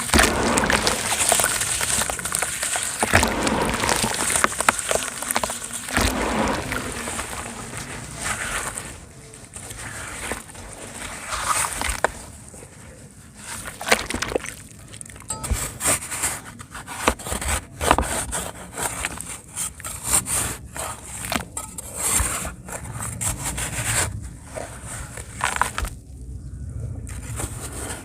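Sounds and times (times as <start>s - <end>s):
dry cement crumbling: 0.0s - 26.3s, 27.0s - 28.0s.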